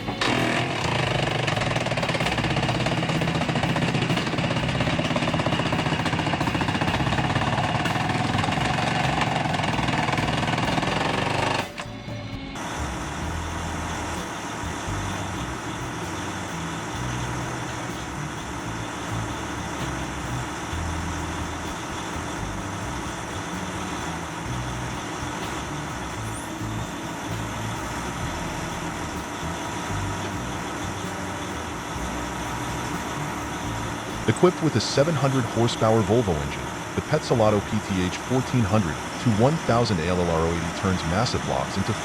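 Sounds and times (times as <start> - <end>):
heavy machine engine running: 0.0 - 42.0.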